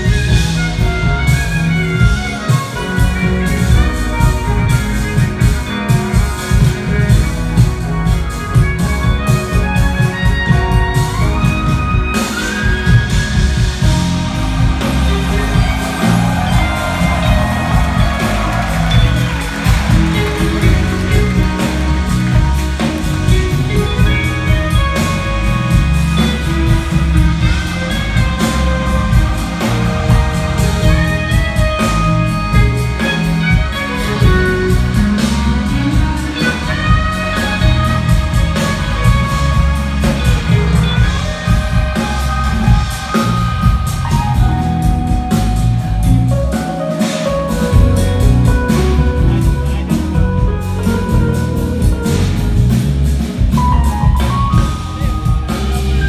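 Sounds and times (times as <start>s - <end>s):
jazz-fusion band playing live: 0.0s - 56.0s.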